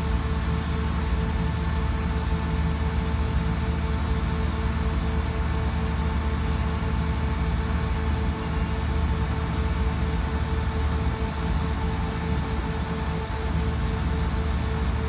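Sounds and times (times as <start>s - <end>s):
machine drone with whine: 0.0s - 15.0s.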